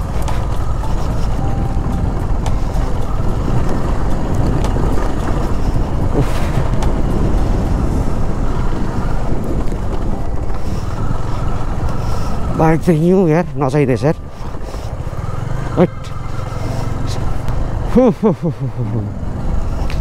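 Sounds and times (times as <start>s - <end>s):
wind buffeting microphone: 0.0s - 18.0s
motorcycle engine running: 0.0s - 20.0s
tyres rolling on dirt road: 0.0s - 20.0s.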